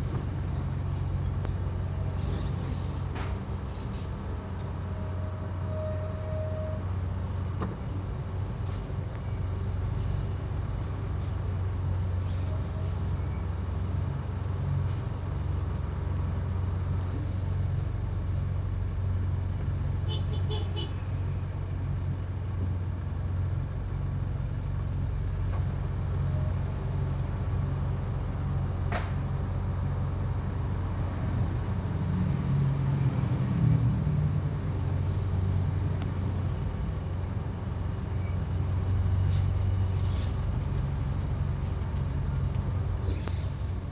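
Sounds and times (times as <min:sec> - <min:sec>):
car engine rumble: 0:00.0 - 0:43.9
road noise: 0:00.0 - 0:43.9.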